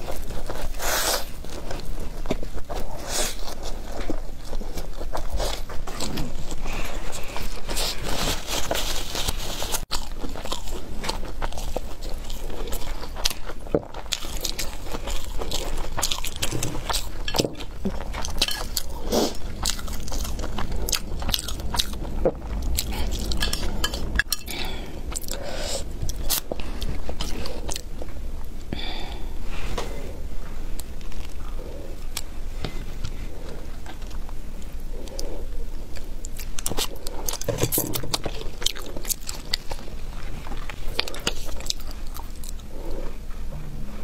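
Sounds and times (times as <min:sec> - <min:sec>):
crunchy biting and chewing: 0:00.0 - 0:28.7, 0:30.8 - 0:43.3.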